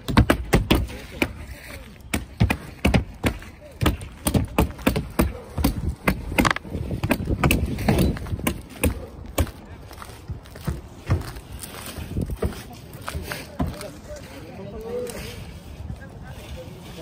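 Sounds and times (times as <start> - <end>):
footsteps on shingled roof: 0.0 - 17.0.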